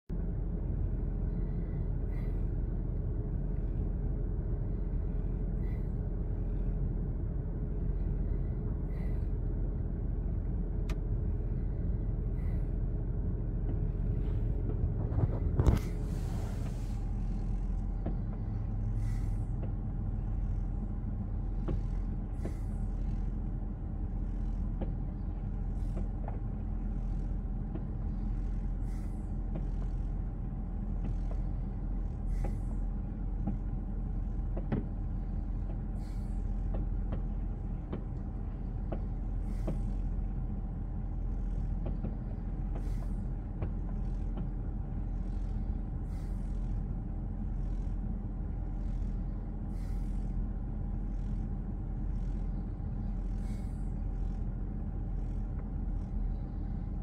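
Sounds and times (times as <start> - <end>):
low outdoor rumble: 0.0 - 57.0.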